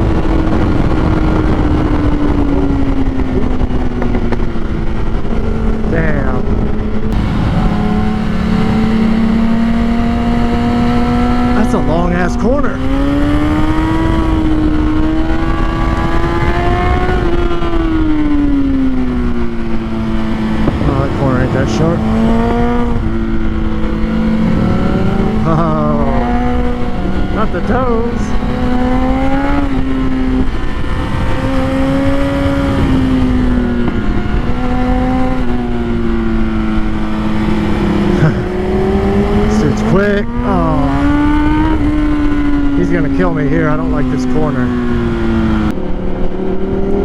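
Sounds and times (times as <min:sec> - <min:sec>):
motorcycle engine at high revs: 0:00.0 - 0:47.0
wind rush on microphone: 0:00.0 - 0:47.0.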